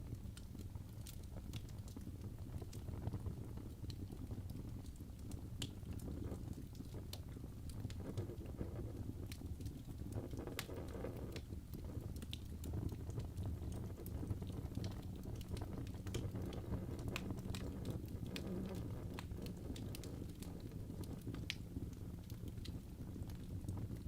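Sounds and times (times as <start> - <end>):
fire crackling and popping: 0.0 - 24.0
low rumble of flame: 0.0 - 24.0.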